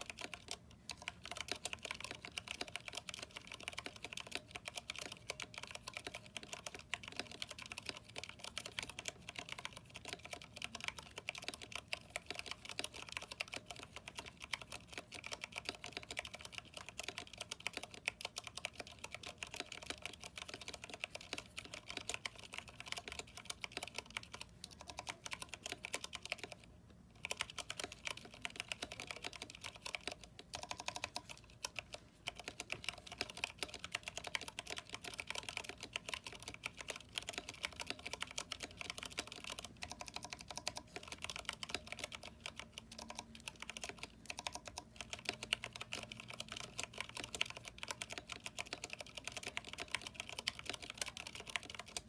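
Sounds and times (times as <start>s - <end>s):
mechanical keyboard typing: 0.0s - 52.0s.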